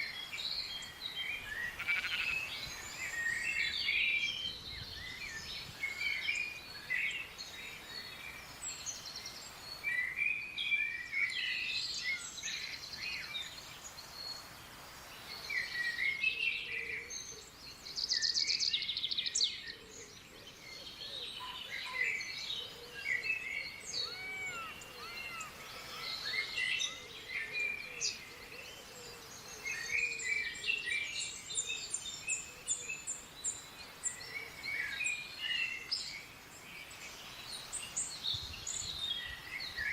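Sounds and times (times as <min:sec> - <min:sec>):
birds chirping: 0:00.0 - 0:16.2, 0:17.0 - 0:39.9.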